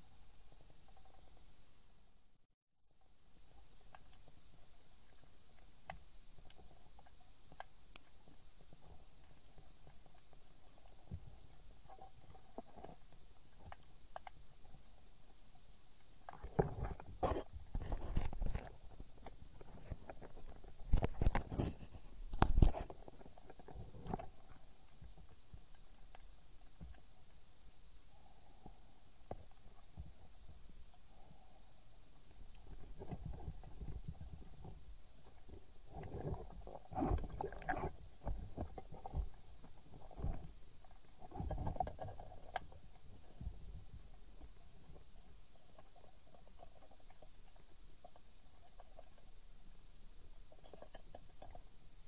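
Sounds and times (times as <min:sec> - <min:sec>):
rustling of water and gear: 0:03.0 - 0:52.0.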